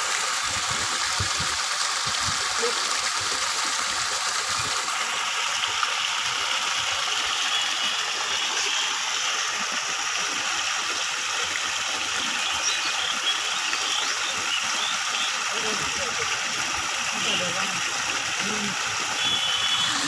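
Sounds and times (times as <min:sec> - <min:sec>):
water gushing into a net: 0:00.0 - 0:20.0.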